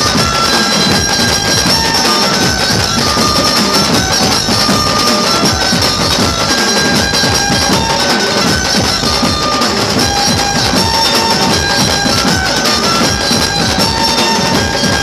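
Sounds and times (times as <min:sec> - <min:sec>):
barrel drums beating: 0:00.0 - 0:15.0
reedy wind melody: 0:00.0 - 0:15.0.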